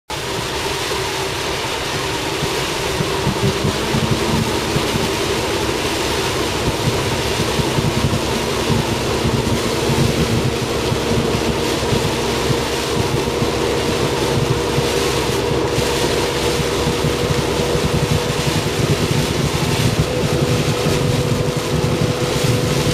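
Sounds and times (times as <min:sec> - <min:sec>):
heavy rain: 0:00.1 - 0:22.9
steady droning hum: 0:00.2 - 0:22.9
strong wind buffeting microphone: 0:00.9 - 0:22.9.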